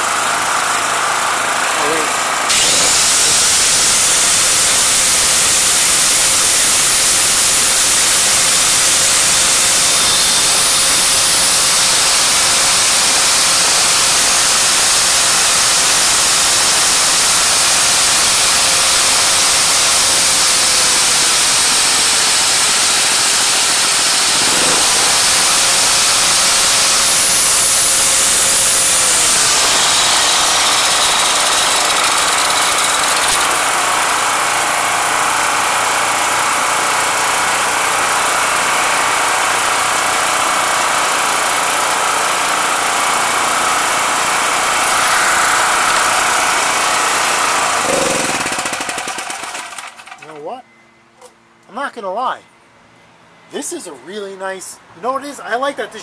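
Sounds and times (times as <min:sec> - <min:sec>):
generator engine running: 0:00.0 - 0:50.4.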